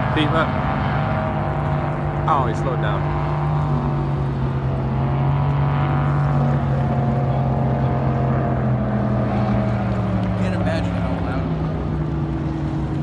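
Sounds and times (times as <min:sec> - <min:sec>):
powerboat engine droning: 0:00.0 - 0:13.0.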